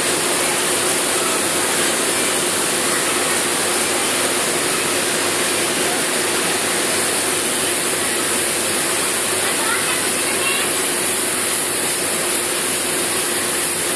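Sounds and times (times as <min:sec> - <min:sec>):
blower rushing hiss: 0:00.0 - 0:13.9.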